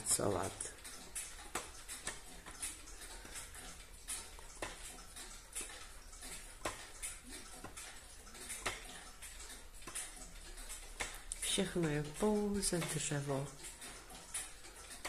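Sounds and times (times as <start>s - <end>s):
wooden clock ticking: 0.0s - 15.0s.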